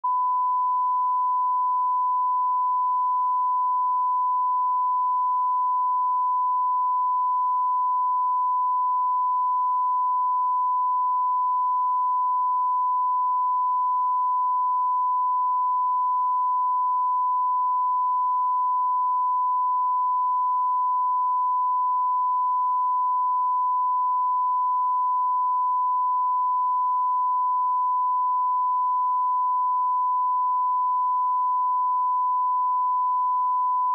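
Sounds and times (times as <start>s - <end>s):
steady line-up tone beep: 0.0s - 33.9s.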